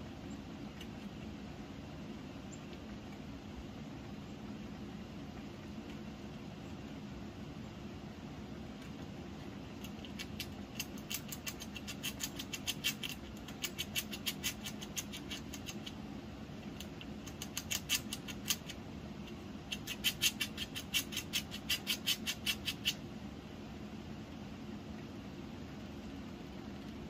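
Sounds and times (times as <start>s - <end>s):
squirrel gnawing: 0.0s - 27.0s.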